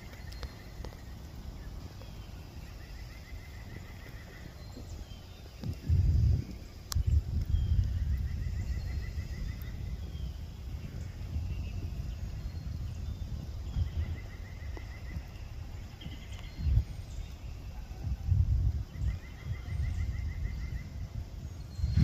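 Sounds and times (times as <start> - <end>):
faint bird chirps: 0.0 - 22.0
songbird trill: 0.0 - 22.0
wind rumbling on microphone: 0.0 - 22.0.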